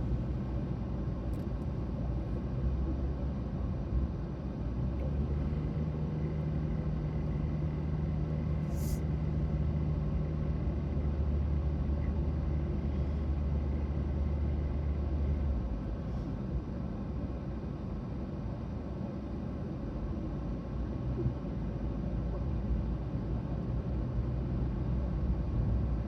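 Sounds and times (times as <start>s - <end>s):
car engine and road drone: 0.0s - 26.0s.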